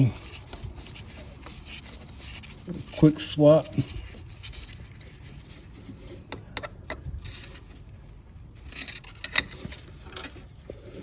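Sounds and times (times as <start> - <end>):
light scraping: 0.0 - 11.0.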